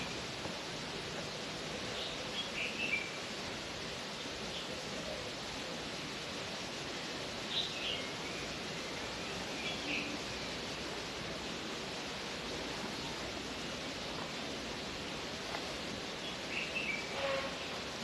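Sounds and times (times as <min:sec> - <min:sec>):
birds chirping: 0:00.0 - 0:05.5, 0:07.4 - 0:18.0
outdoor noise hiss: 0:00.0 - 0:18.0.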